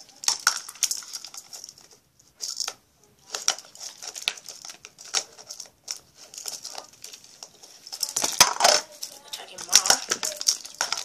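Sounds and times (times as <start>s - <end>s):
crinkly plastic rustling: 0.0s - 11.0s.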